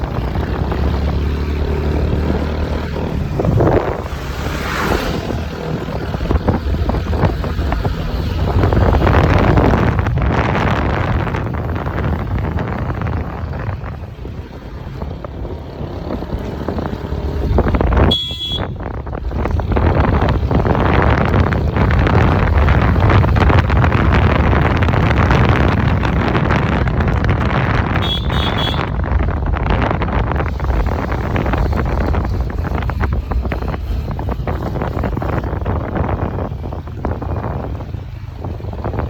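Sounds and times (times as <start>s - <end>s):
scooter engine and road noise: 0.0s - 39.0s
wind buffeting microphone: 0.0s - 39.0s.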